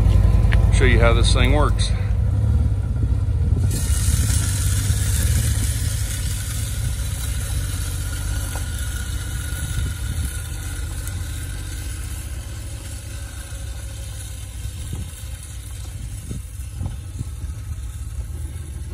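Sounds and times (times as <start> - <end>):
engine pulling away: 0.0 - 18.9
steady hiss: 3.6 - 18.9.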